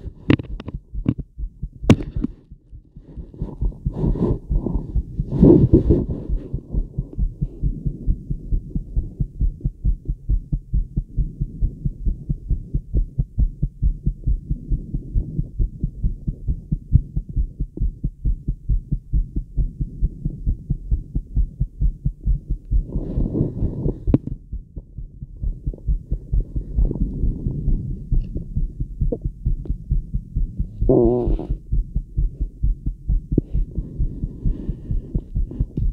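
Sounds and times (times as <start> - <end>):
fast heartbeat thumps: 0.0 - 35.9.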